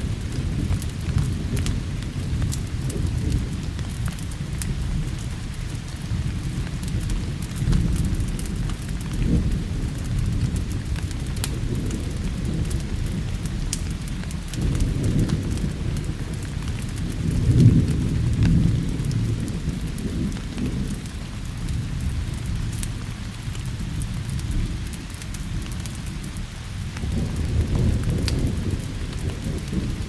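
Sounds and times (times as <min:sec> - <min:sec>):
rolling thunder rumble: 0:00.0 - 0:30.0
steady rain: 0:00.0 - 0:30.0
wood fire crackling: 0:00.0 - 0:30.0.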